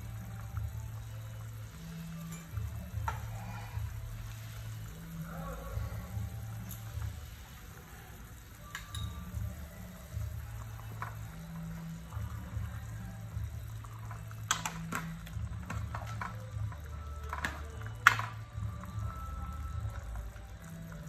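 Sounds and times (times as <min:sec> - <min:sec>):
soup boiling and bubbling: 0:00.0 - 0:21.0.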